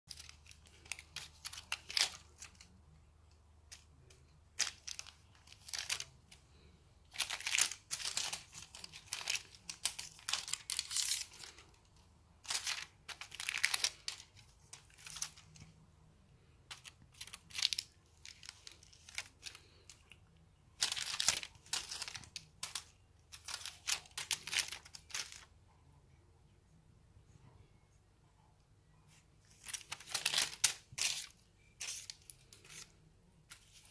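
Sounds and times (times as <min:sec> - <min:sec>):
crinkly plastic toy rustling: 0:00.1 - 0:25.5, 0:29.1 - 0:33.9.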